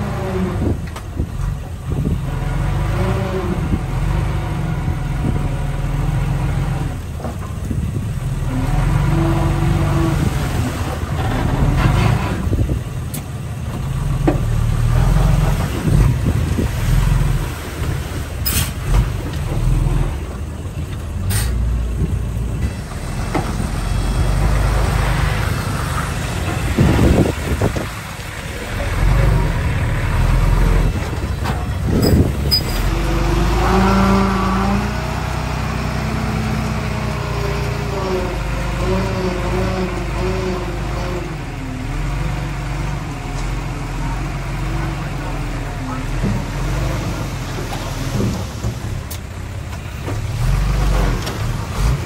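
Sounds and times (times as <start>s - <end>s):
heavy machinery engine rumble: 0.0s - 52.0s.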